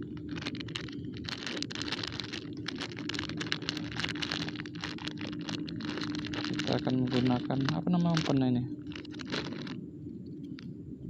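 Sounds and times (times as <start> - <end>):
plastic packet crinkling: 0.0 - 9.8.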